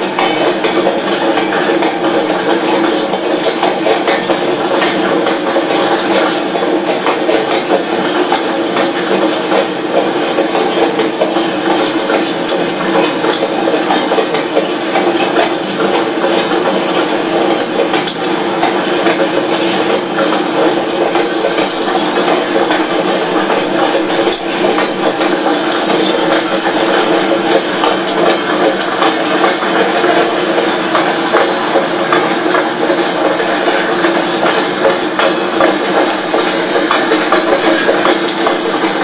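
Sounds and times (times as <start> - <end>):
freight cars rumbling and rattling: 0.0 - 39.0
wheel clicks over rails: 0.0 - 39.0.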